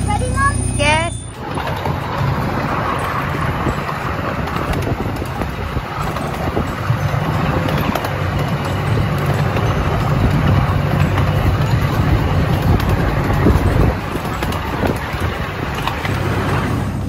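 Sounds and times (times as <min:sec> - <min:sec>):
low engine hum: 0:00.0 - 0:17.0
train wheels rumbling on rails: 0:00.0 - 0:17.0
scattered clicks: 0:01.3 - 0:16.8.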